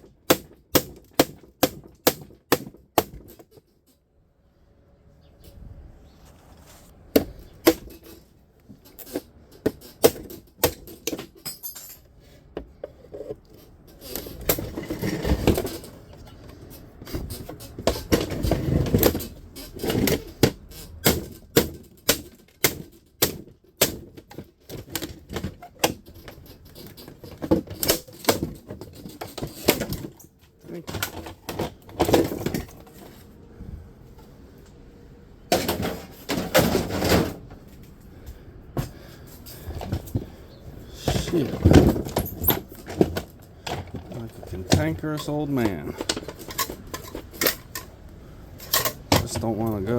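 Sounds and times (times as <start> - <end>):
metal scraping and rattling: 6.3 - 33.4, 34.0 - 38.2, 38.8 - 49.9.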